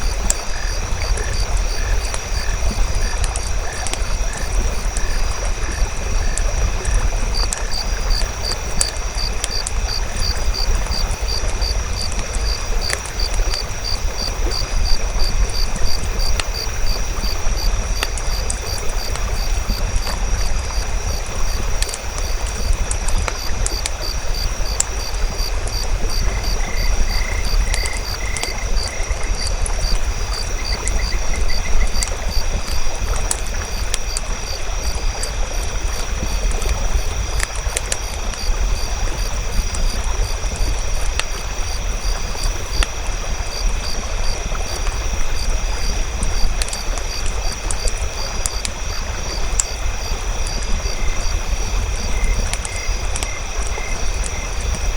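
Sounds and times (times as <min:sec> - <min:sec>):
campfire crackling: 0:00.0 - 0:54.9
frogs and insects calling: 0:00.0 - 0:54.9.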